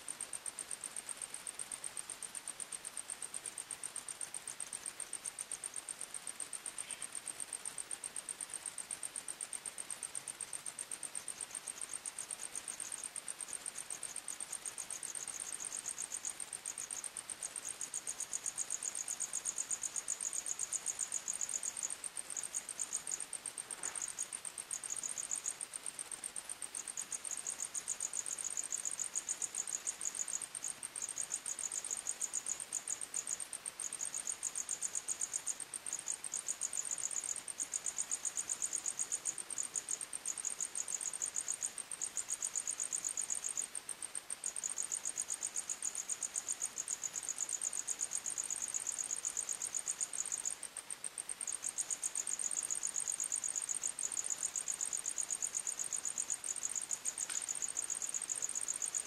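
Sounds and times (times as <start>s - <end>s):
higher-pitched cricket trill: 0.0s - 59.0s
lower-pitched cricket chirping: 0.0s - 59.0s.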